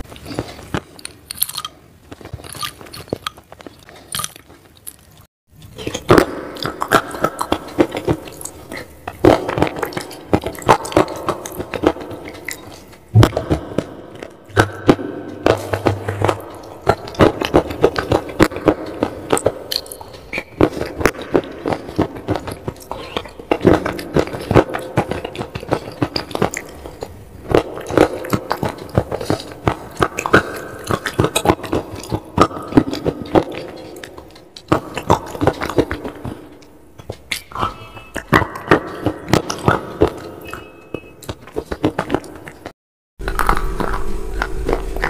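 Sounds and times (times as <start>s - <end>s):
crunching and chewing: 0.0s - 45.0s.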